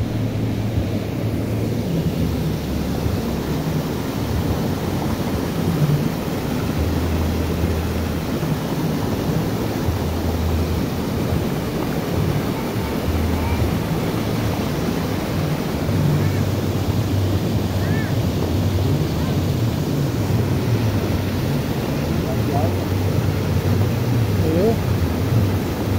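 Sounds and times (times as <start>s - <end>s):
stream rushing over a drop: 0.0s - 25.9s.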